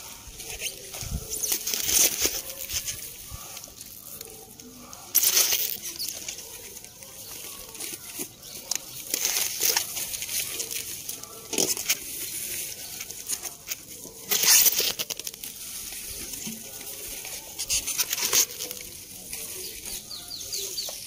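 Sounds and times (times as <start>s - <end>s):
plastic bag rustling: 0.0s - 21.0s.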